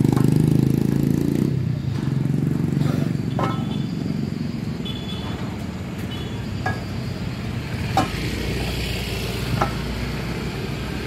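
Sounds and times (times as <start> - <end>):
motorcycles and cars passing: 0.0 - 11.0.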